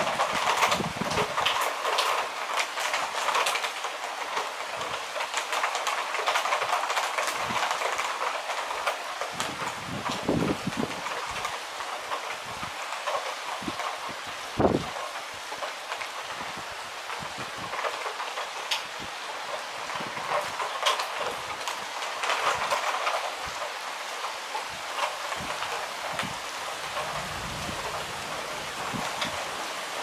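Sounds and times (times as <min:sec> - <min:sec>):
heavy rain falling: 0:00.0 - 0:30.0
raindrops ticking on hard surface: 0:00.0 - 0:30.0.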